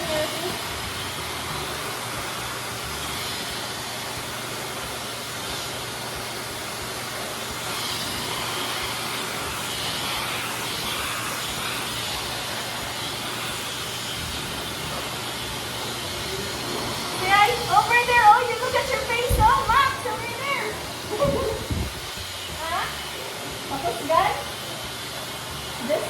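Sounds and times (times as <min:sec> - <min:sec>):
dog grooming dryer blowing: 0:00.0 - 0:26.0.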